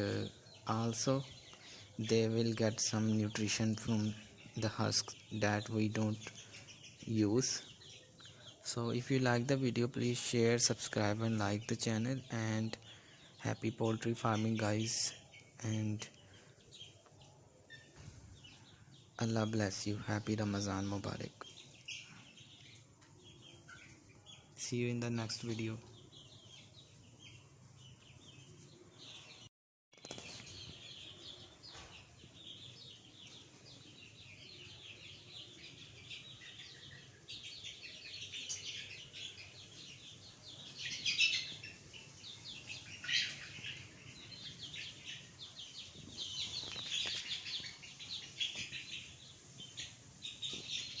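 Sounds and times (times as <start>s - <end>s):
chicks peeping: 0.0s - 51.0s.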